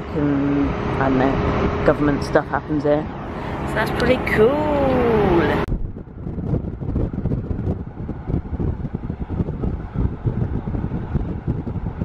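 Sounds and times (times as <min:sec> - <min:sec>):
moving car rumble: 0:00.0 - 0:12.0
wind buffeting microphone: 0:00.0 - 0:12.0.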